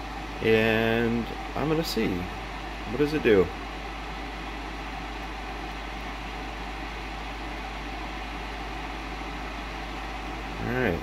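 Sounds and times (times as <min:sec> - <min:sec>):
fume extractor fan whooshing: 0:00.0 - 0:11.0.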